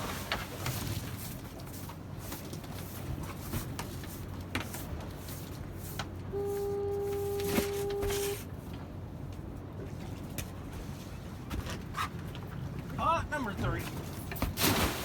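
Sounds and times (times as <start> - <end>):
boat engine humming: 0.1 - 14.5.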